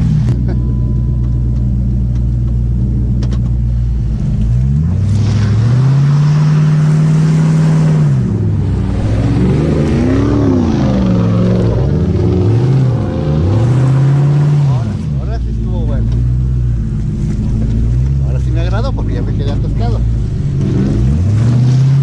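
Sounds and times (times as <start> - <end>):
engine revving through mud: 4.1 - 22.0.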